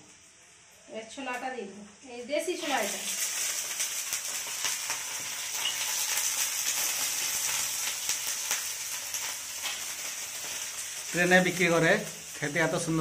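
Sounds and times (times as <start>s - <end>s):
chickpeas sizzling in oil: 0.0s - 13.0s.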